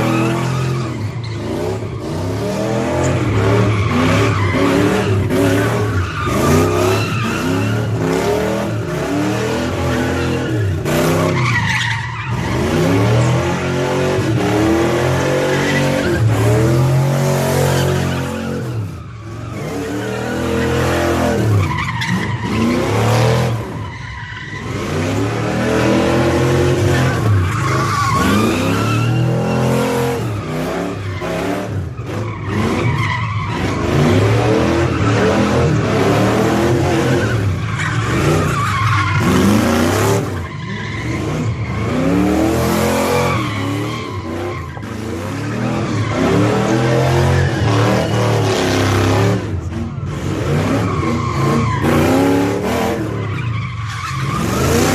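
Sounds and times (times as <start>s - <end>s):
car engine revving: 0.0s - 54.9s
tyres squealing and skidding: 0.0s - 54.9s.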